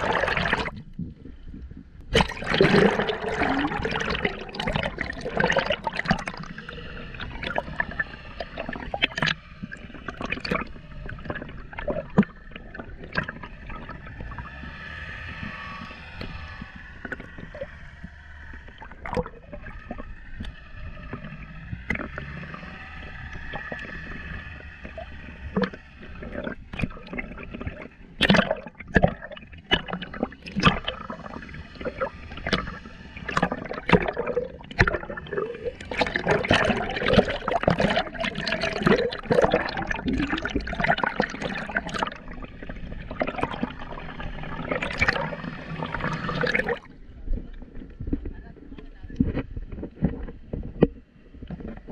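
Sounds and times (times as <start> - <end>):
underwater water sloshing: 0.0 - 51.9.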